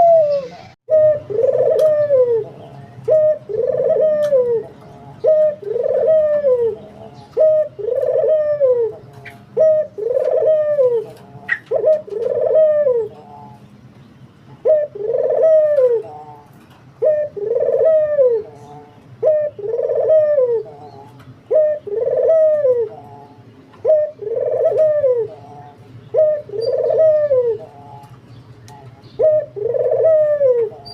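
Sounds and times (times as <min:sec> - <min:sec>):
dove cooing: 0:00.0 - 0:13.6, 0:14.6 - 0:30.9.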